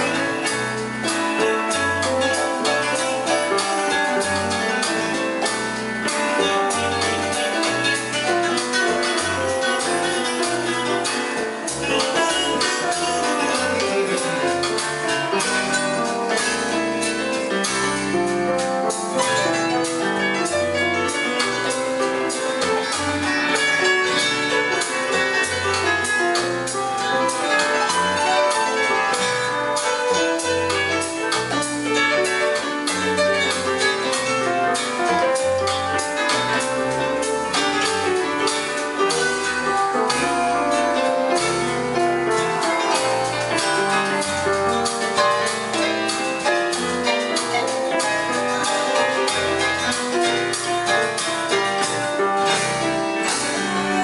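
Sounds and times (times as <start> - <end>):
bass and drums backing: 0.0 - 54.0
electronic keyboard and piano: 0.0 - 54.0.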